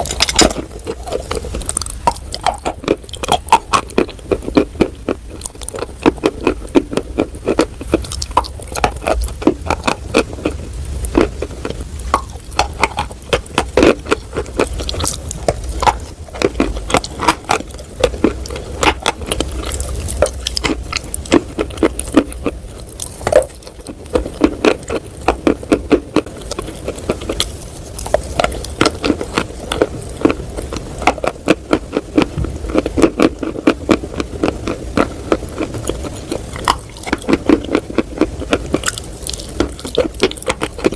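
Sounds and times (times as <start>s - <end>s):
mouth crunching and chewing chalk: 0.0s - 40.9s.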